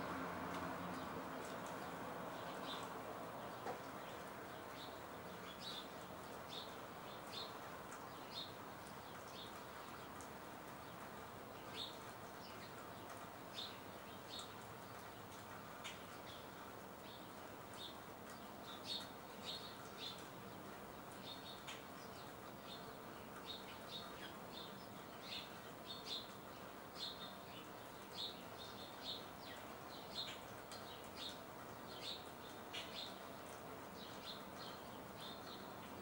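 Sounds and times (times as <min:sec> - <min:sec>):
rainfall hiss: 0:00.0 - 0:36.0
birds chirping: 0:00.8 - 0:36.0.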